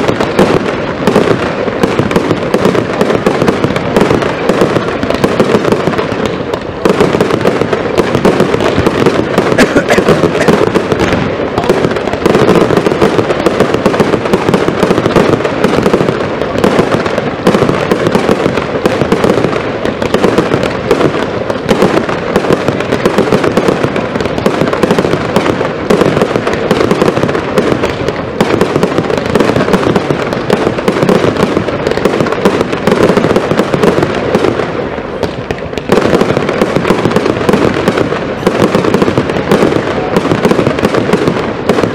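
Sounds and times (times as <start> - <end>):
fireworks banging and popping: 0.0 - 41.9.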